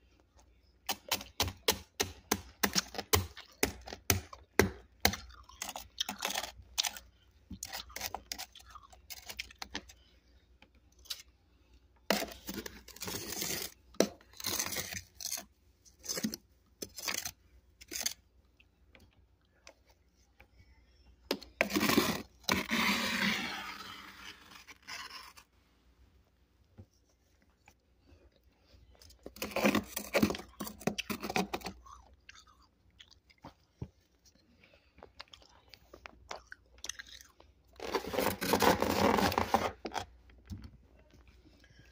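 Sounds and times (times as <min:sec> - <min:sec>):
crunching and chewing frost: 0:00.0 - 0:25.5, 0:26.9 - 0:41.9.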